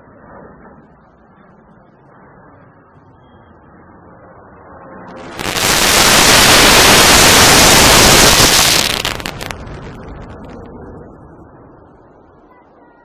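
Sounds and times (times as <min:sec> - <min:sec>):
fighter jet flying overhead: 0:00.0 - 0:03.0, 0:03.6 - 0:12.2.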